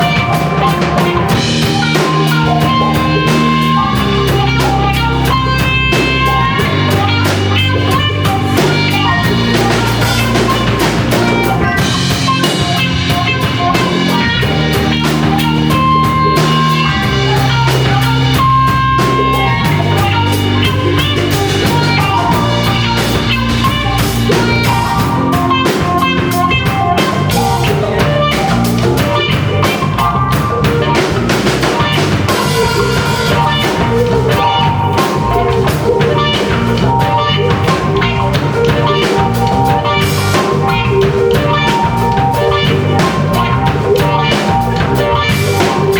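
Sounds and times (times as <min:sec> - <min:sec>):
drum kit beat: 0:00.0 - 0:45.9
guitar lines: 0:00.0 - 0:45.9
rock band playing live: 0:00.0 - 0:45.9.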